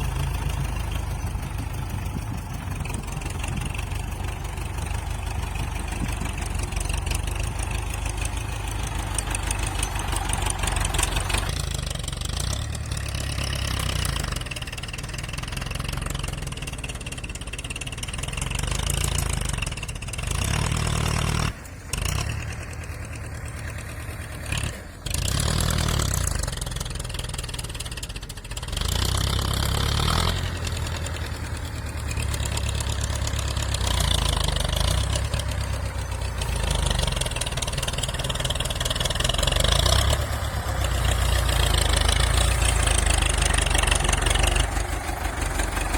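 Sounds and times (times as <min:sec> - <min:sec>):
tractor engine revving: 0:00.0 - 0:45.9.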